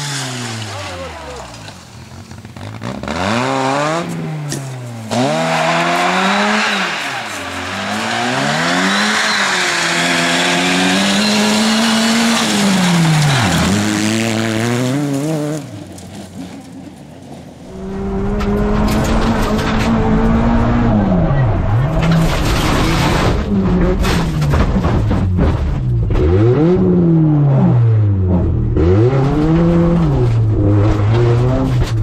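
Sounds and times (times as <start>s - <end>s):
rally car engine revving: 0.0s - 16.6s, 17.6s - 32.0s.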